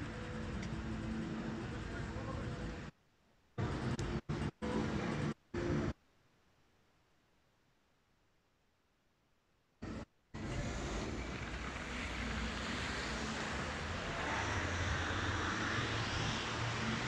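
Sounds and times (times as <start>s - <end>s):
steady rumbling outdoor noise: 0.0s - 6.3s, 9.6s - 17.0s.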